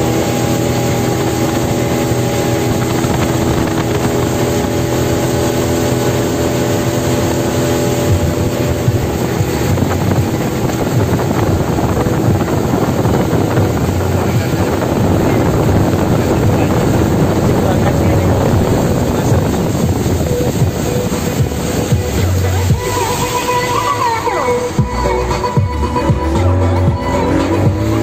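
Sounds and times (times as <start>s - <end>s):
speedboat engine running: 0.0s - 28.0s
wind and water rushing: 0.0s - 28.0s.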